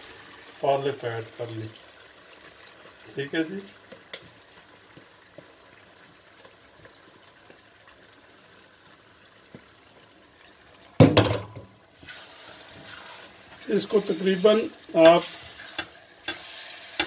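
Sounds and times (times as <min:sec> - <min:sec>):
masala simmering in pot: 0:00.0 - 0:17.0.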